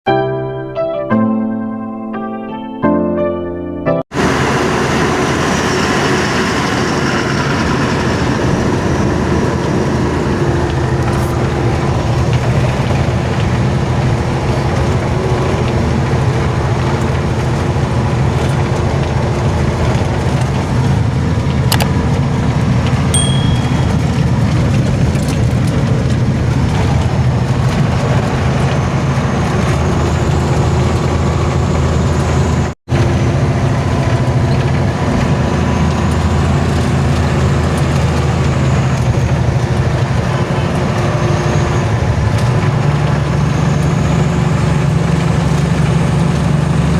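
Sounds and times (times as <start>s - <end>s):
road and wind noise: 4.1s - 46.9s
truck engine rumble: 4.1s - 46.9s.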